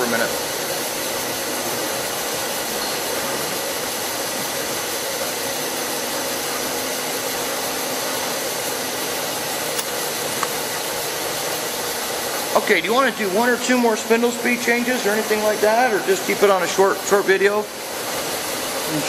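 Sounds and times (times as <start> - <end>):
milling machine whirring: 0.0 - 19.0.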